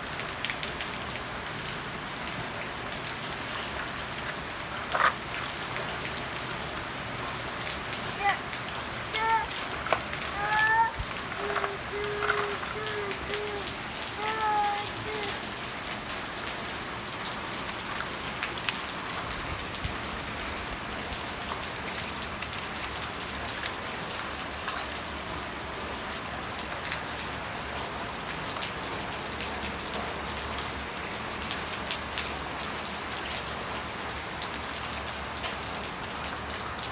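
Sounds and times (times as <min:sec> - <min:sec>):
raindrops ticking on a surface: 0:00.0 - 0:36.9
steady rain falling: 0:00.0 - 0:36.9.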